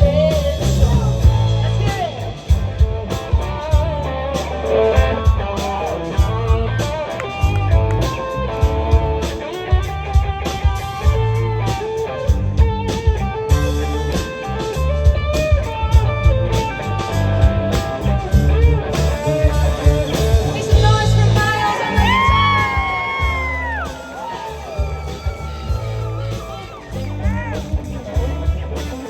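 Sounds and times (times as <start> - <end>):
bass guitar: 0.0 - 29.0
electric guitar: 0.0 - 29.0
steady drum beat: 0.0 - 29.0.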